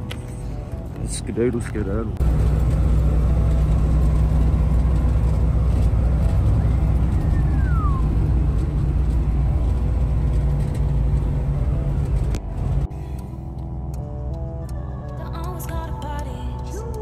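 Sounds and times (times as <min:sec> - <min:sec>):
car engine and road drone: 0:00.0 - 0:17.0.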